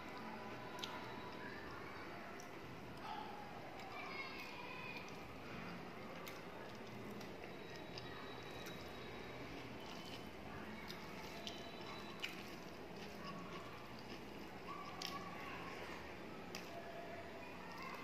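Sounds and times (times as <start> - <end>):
chewing: 0.1 - 1.6, 3.7 - 17.0.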